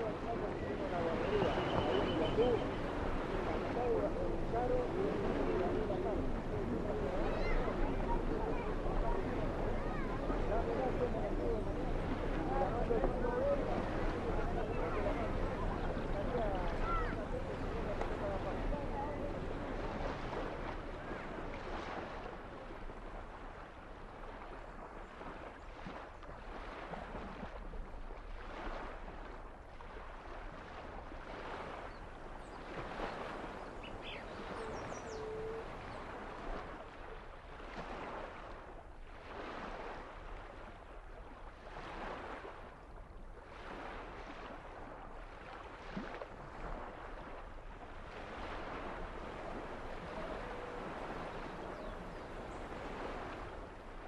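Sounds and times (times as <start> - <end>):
water washing in surges: 0.0 - 54.0.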